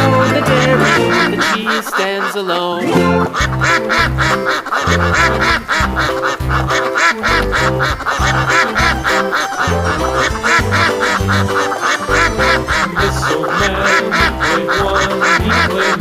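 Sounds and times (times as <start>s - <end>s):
children's instrumental music: 0.0s - 16.0s.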